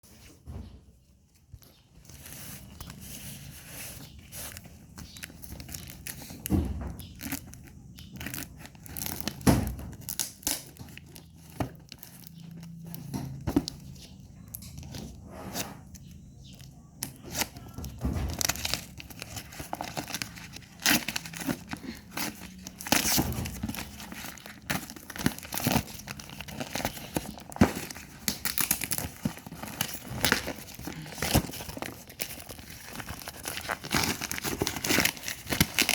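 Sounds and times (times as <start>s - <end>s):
packaging tearing and crinkling: 2.1s - 15.0s, 15.9s - 35.9s.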